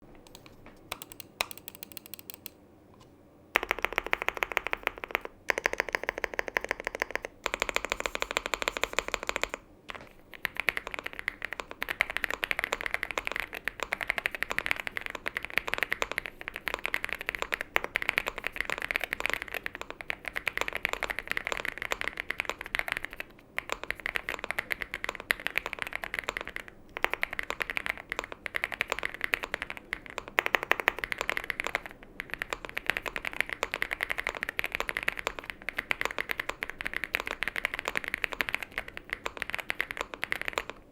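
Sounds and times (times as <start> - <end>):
mechanical keyboard typing: 0.2 - 2.6, 3.6 - 40.9.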